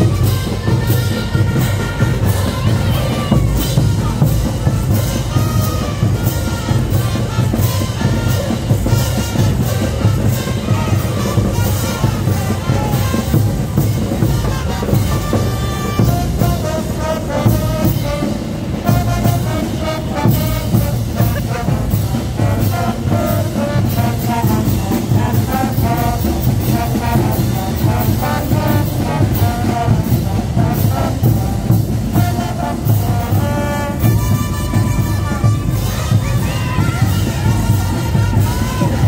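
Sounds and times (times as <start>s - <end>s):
brass band playing: 0.0s - 39.0s
steady drum beat: 0.0s - 39.0s.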